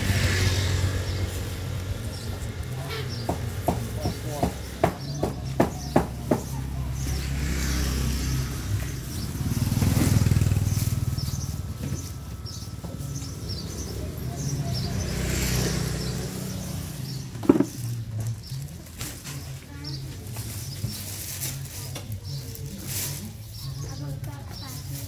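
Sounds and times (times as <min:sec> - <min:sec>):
scooters passing: 0:00.0 - 0:20.7.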